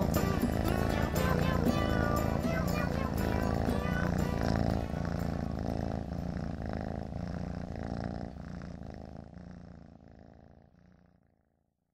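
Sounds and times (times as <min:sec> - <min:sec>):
cat purring: 0:00.0 - 0:11.9.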